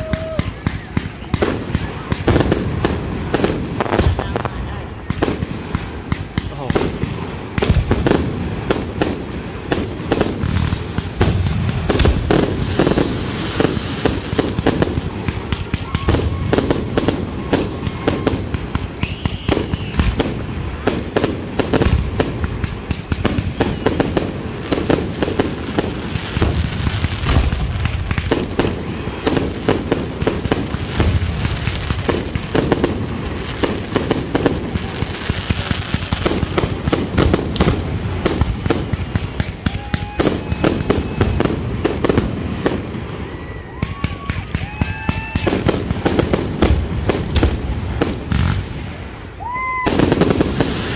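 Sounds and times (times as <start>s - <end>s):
firework whistles: 0.0s - 4.2s, 10.3s - 46.7s, 49.3s - 50.9s
fireworks bursting and crackling: 0.0s - 50.9s.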